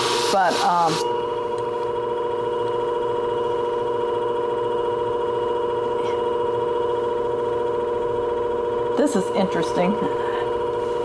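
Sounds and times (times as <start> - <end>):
sharpening machine motor humming: 0.0 - 11.0.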